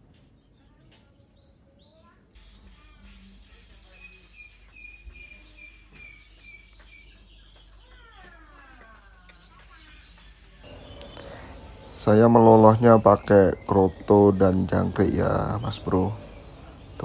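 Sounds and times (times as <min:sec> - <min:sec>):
nestlings chirping high: 0:02.2 - 0:17.0.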